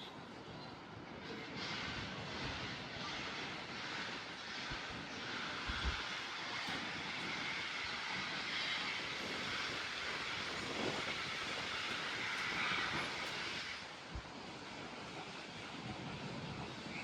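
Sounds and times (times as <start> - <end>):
passing train rushing: 0.0 - 17.0.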